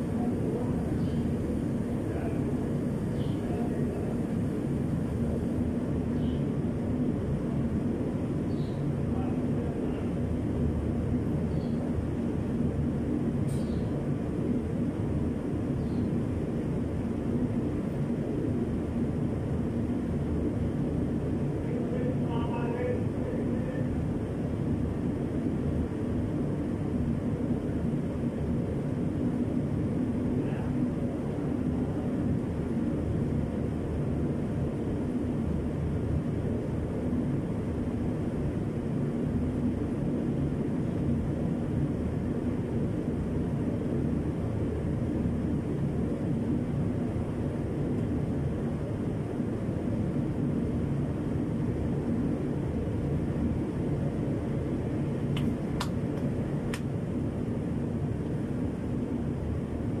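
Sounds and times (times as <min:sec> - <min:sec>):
faint hum: 0:00.0 - 1:00.0
low background rumble: 0:00.0 - 1:00.0.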